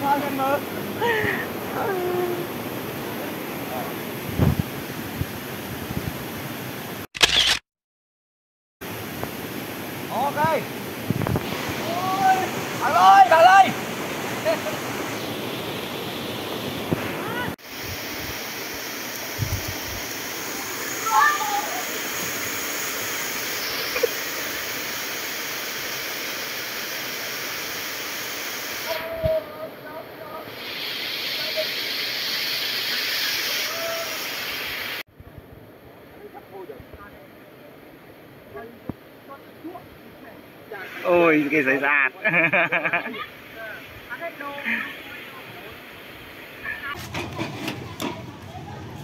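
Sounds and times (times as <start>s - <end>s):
waterfall and stream rushing: 0.0s - 7.1s, 8.8s - 35.1s, 37.3s - 47.2s.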